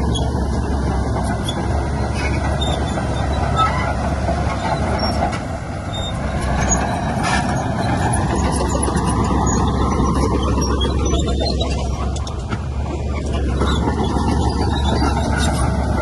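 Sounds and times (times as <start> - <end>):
heavy diesel machinery running: 0.0 - 16.0.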